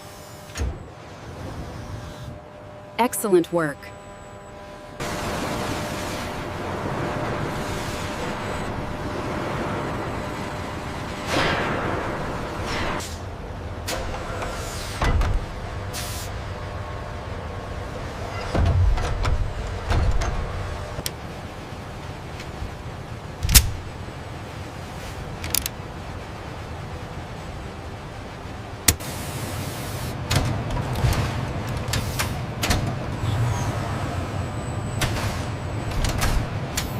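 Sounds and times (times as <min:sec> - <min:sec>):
rushing machinery noise: 0:00.0 - 0:36.9.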